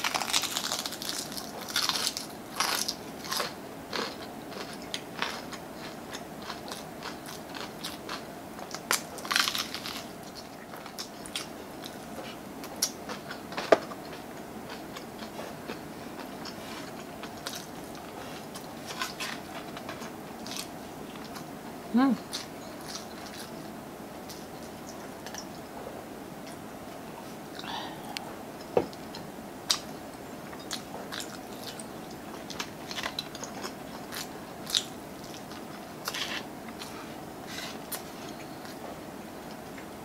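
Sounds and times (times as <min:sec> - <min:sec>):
crunching fried chicken: 0:00.0 - 0:21.5, 0:22.2 - 0:23.7, 0:29.0 - 0:38.8.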